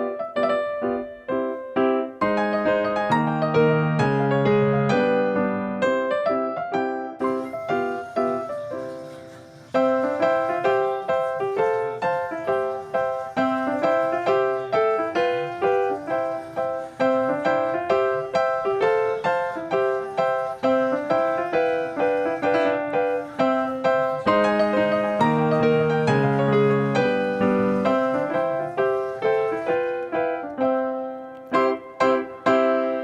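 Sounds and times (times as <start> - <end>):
background piano music: 0.0 - 33.0.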